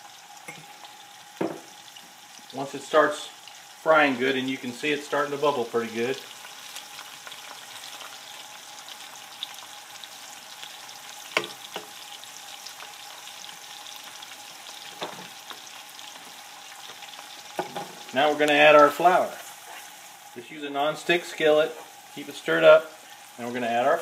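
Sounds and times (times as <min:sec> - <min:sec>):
ham and butter sizzling in skillet: 0:00.0 - 0:24.0.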